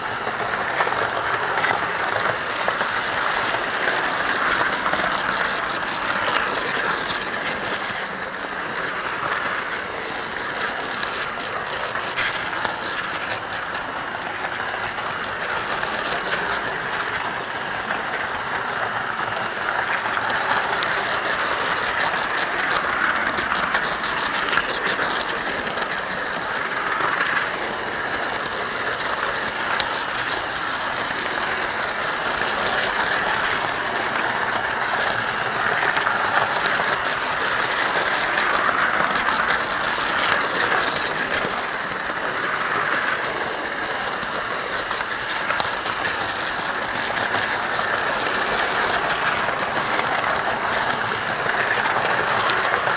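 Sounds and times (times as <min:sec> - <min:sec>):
model train motor whirring: 0:00.0 - 0:52.9
wheels clicking over rail: 0:00.0 - 0:52.9.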